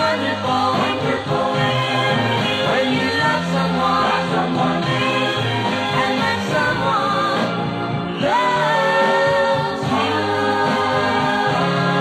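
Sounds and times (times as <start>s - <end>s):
pop band playing: 0.0s - 12.0s
voices singing in harmony: 0.0s - 12.0s.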